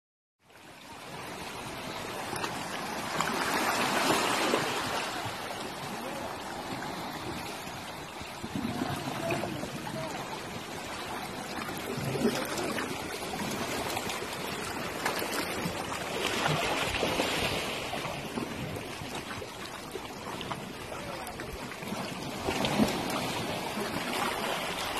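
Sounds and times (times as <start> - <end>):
small waves lapping on rocks: 0.5 - 24.9.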